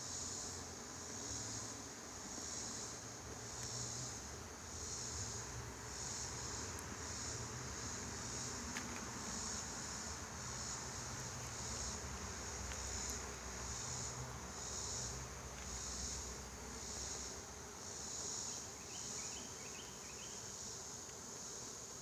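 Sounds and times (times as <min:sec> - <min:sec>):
pulsing insect chorus: 0:00.0 - 0:22.0.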